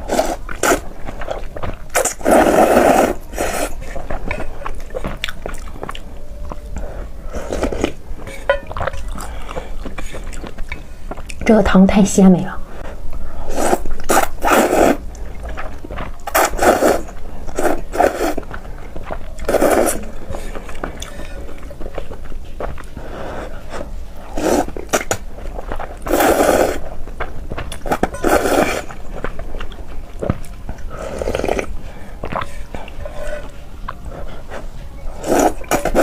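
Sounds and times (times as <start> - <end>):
slurping and chewing noodles: 0.0 - 11.4, 13.3 - 36.0.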